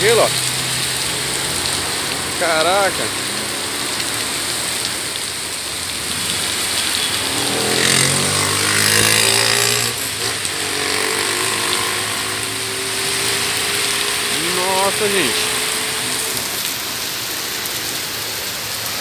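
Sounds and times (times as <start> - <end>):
heavy rain and hail: 0.0 - 19.0
vehicle passing on wet street: 0.0 - 19.0.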